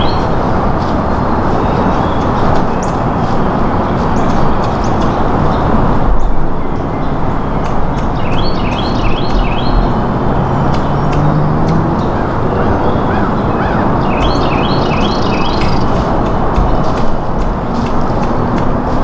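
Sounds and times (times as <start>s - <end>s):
loud steady rushing noise: 0.0s - 19.0s
songbird chirping: 0.0s - 19.0s.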